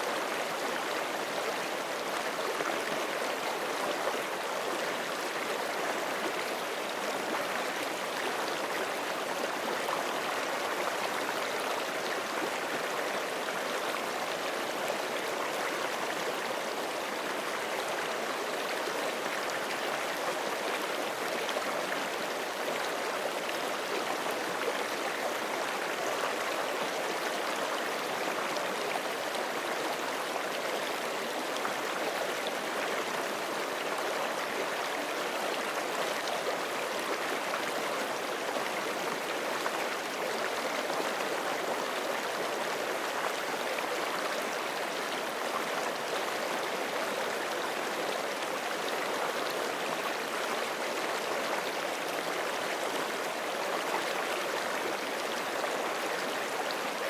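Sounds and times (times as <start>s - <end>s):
creek flowing over rocks: 0.0s - 57.0s.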